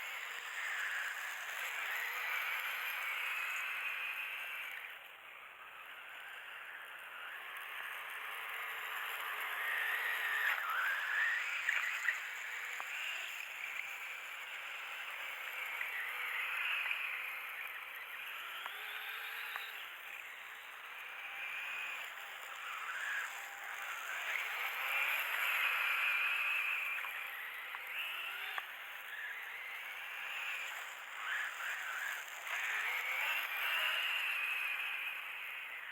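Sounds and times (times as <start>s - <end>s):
toy motor whining: 6.0s - 35.9s.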